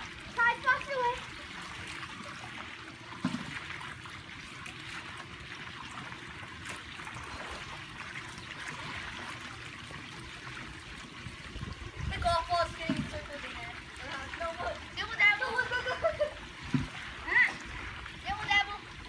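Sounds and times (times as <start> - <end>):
pool water trickling and lapping: 0.0 - 19.0.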